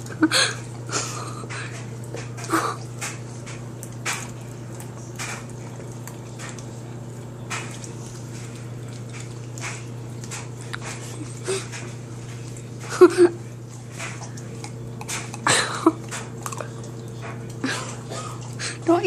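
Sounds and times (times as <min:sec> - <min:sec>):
steady low hum: 0:00.0 - 0:19.0
dog licking a spoon: 0:01.5 - 0:18.9.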